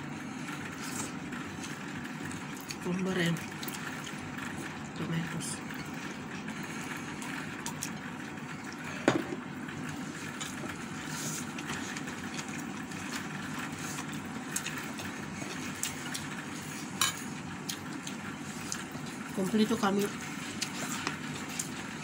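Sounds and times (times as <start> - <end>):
steady fan noise: 0.0 - 22.0.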